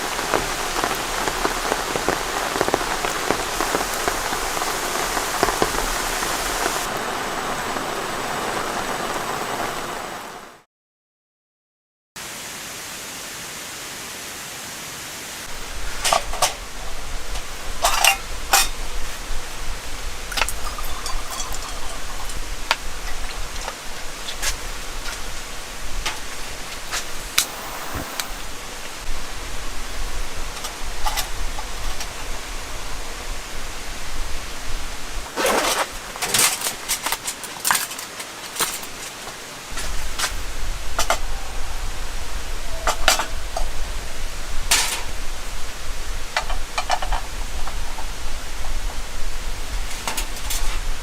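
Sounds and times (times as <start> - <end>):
steady rain hiss: 0.0 - 10.6, 12.2 - 51.0.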